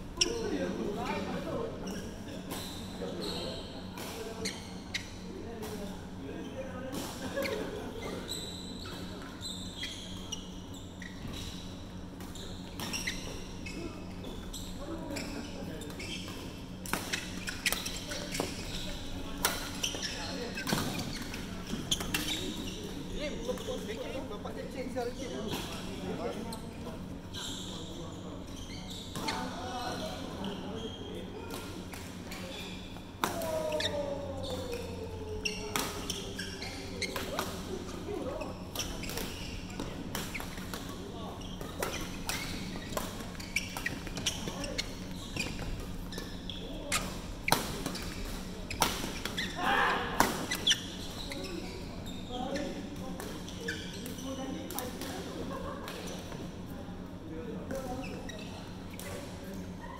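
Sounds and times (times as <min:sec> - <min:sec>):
low hall hum: 0:00.0 - 0:59.9
shoes squeaking on court: 0:00.1 - 0:59.9.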